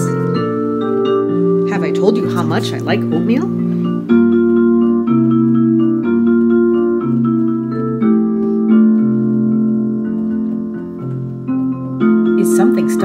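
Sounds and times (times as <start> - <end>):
instrumental keyboard music: 0.0 - 13.0.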